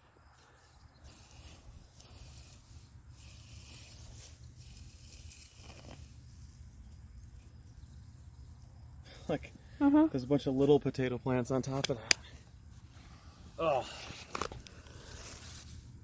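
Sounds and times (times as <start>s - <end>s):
crickets trilling: 0.0s - 16.0s
rustling soil and plants: 0.0s - 16.0s.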